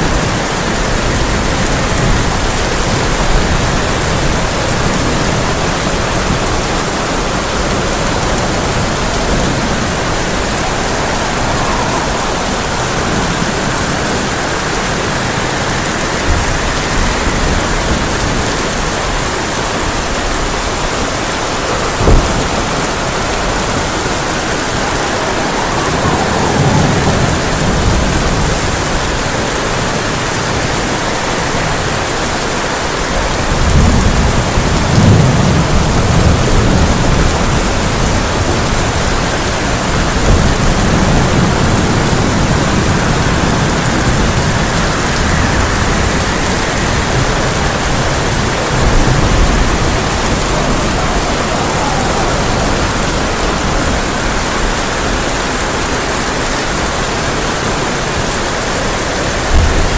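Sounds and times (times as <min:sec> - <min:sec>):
heavy rain on a tin roof: 0:00.0 - 0:59.9
low rolls of thunder: 0:00.0 - 0:59.9.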